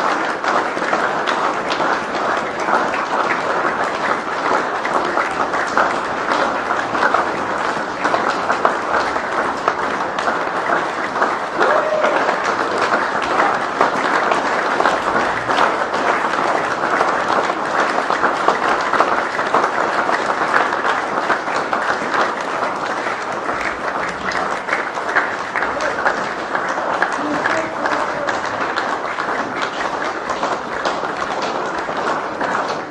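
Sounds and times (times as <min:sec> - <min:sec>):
audience applauding: 0:00.0 - 0:32.9.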